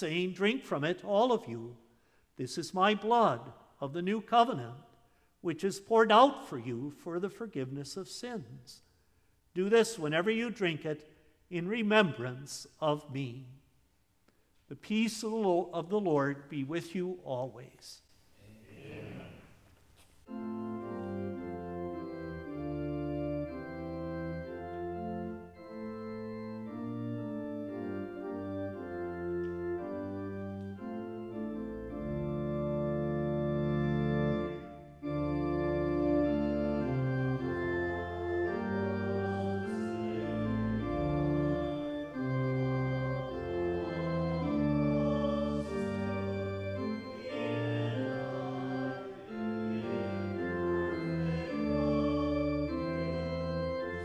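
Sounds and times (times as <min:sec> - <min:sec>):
church organ chords: 0:00.0 - 0:04.8, 0:05.4 - 0:08.3, 0:09.6 - 0:13.6, 0:20.3 - 0:54.0.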